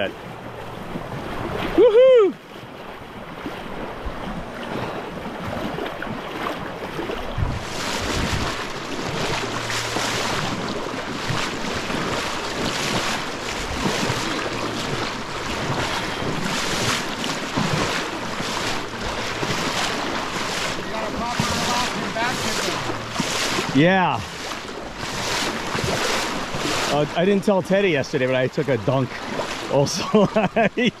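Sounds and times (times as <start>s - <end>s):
creek water rushing over gravel: 0.0s - 31.0s
person splashing while wading: 0.0s - 31.0s.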